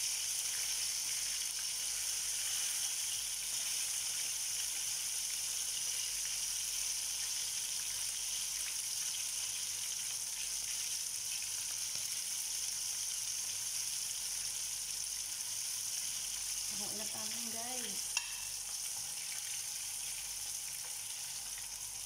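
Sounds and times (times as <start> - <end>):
chicken frying in oil: 0.0 - 22.0.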